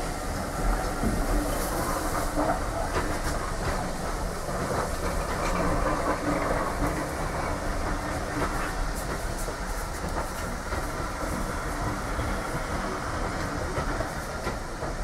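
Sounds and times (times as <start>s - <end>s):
railway carriage rumble: 0.0s - 15.0s
wheels clicking over rail joints: 0.6s - 15.0s.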